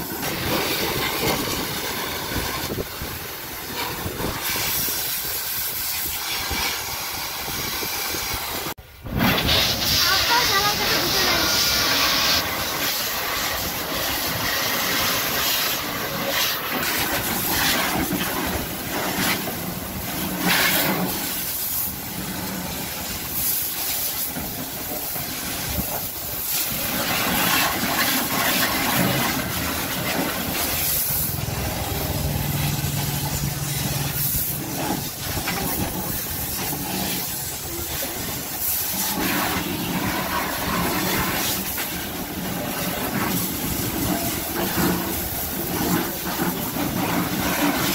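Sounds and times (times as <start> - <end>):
pressure washer water jet hissing: 0.0 - 47.9.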